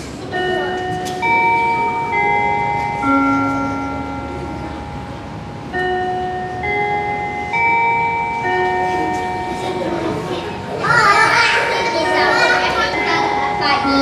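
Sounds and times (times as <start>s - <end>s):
ringing chime notes: 0.3s - 10.4s, 11.0s - 14.0s.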